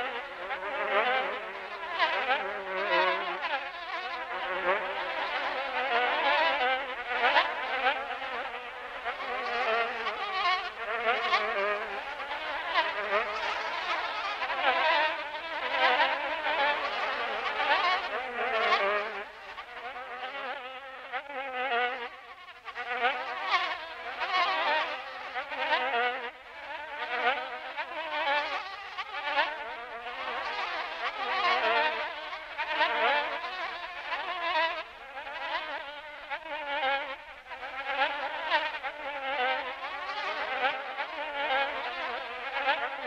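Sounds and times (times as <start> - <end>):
dense insect-like buzzing: 0.0 - 43.0.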